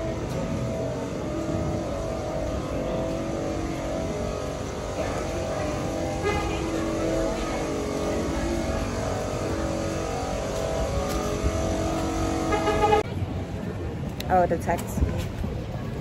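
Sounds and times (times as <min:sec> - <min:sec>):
road traffic rumbling: 0:00.0 - 0:16.0.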